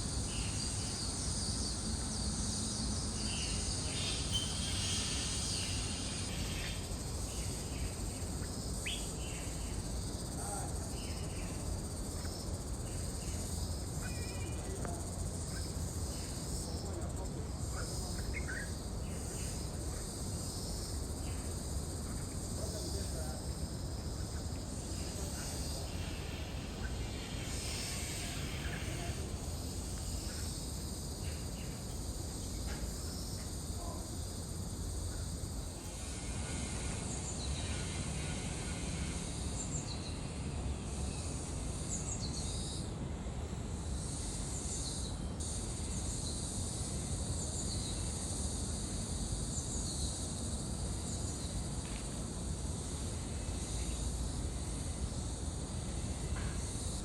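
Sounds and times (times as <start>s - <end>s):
insect-like buzz: 0.0s - 42.9s, 43.8s - 57.0s.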